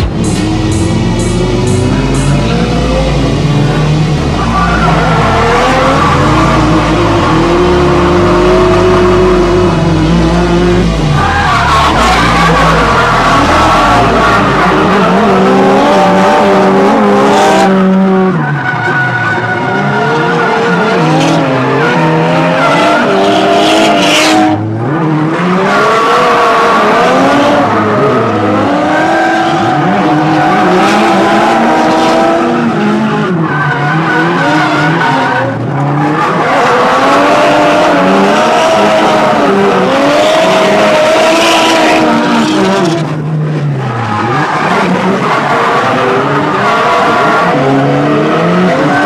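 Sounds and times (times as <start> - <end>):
car engine revving hard: 0.0 - 49.0.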